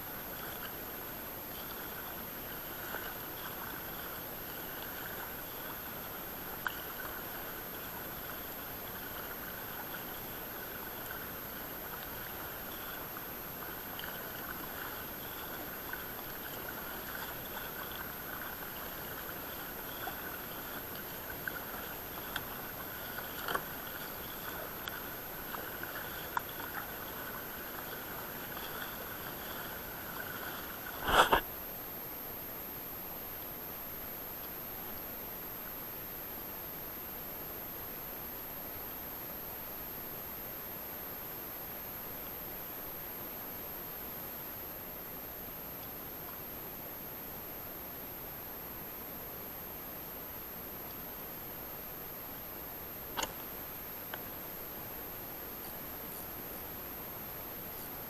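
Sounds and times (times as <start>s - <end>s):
water around a kayak: 0.0s - 58.0s.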